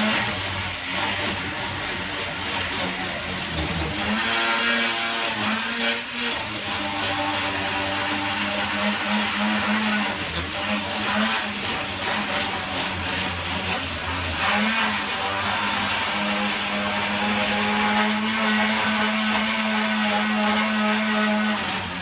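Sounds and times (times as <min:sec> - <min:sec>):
mini chainsaw running: 0:00.0 - 0:22.0.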